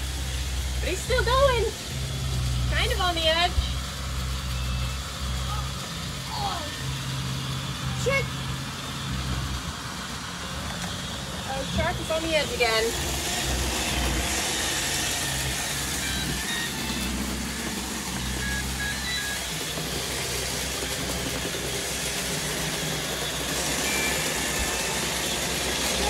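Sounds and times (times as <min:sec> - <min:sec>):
robot vacuums whirring: 0:00.1 - 0:26.0.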